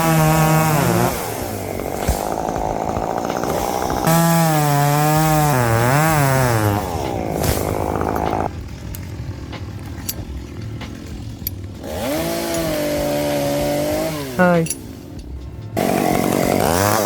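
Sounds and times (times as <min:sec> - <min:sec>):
chainsaw cutting wood: 0:00.0 - 0:14.6, 0:15.8 - 0:17.0.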